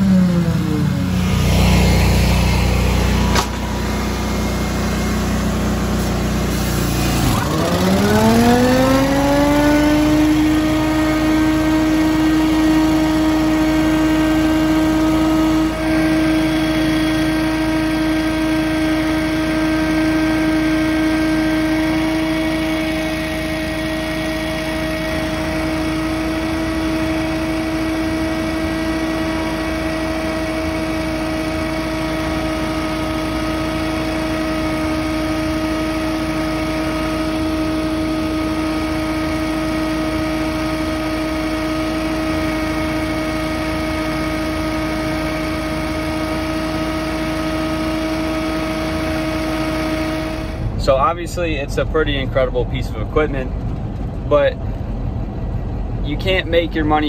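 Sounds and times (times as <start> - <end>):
leaf blower whining: 0.0 - 50.9.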